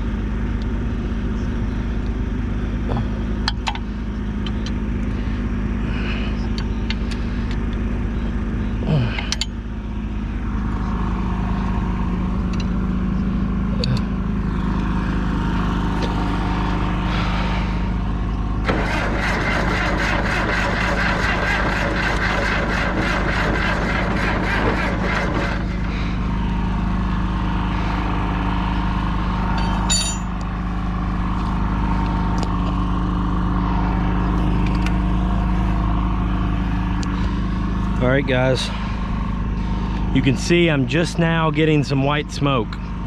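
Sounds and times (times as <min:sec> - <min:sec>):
diesel engine droning: 0:00.0 - 0:43.0
harsh rapid engine clatter: 0:00.0 - 0:43.0.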